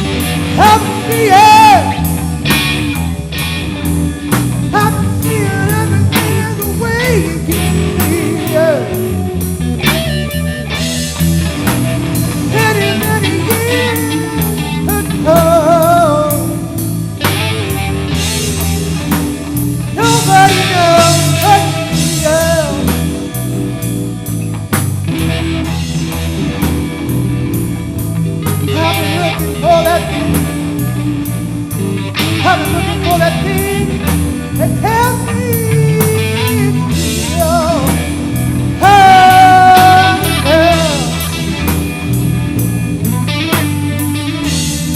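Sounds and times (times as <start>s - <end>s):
blues-rock trio playing: 0.0s - 44.9s
lead guitar solo: 0.0s - 44.9s.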